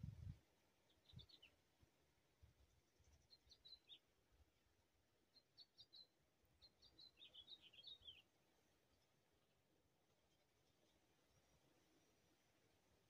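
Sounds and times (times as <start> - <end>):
faint bird song chirps: 0.0 - 13.0.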